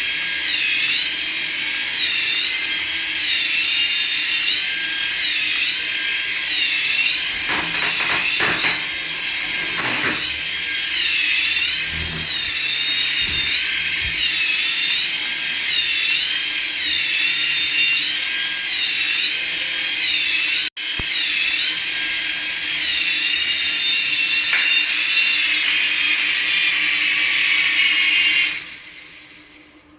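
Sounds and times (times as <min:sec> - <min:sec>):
toy motor high-pitched whine: 0:00.0 - 0:29.3.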